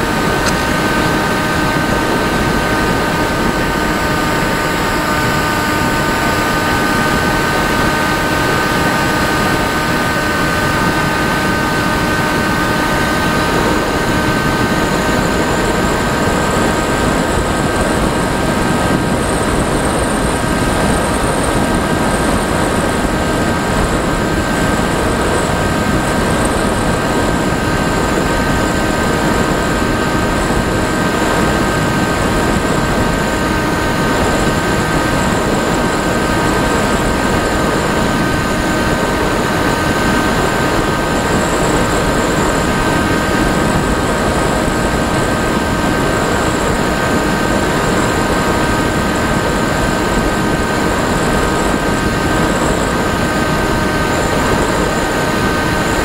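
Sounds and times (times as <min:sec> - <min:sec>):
heavy wind rush: 0:00.0 - 0:56.0
model aircraft motor whine: 0:00.0 - 0:56.0.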